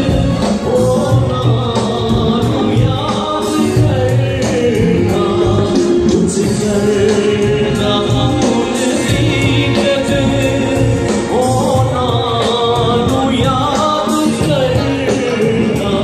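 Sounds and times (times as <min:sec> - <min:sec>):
men singing into microphones: 0:00.0 - 0:16.0.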